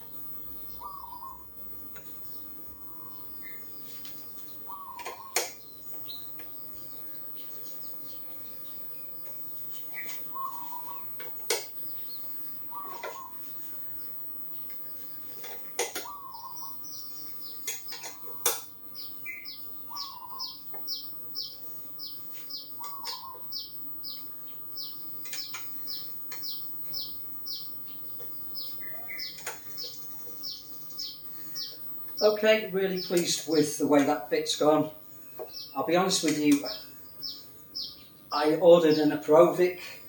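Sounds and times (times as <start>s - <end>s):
high falling bird chirps: 0.0s - 39.8s.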